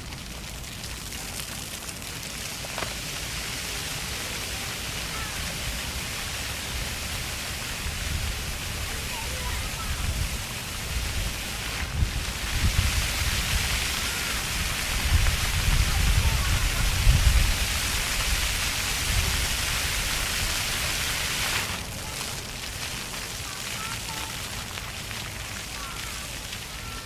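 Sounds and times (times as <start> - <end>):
fountain water spraying on paving: 0.0 - 27.0.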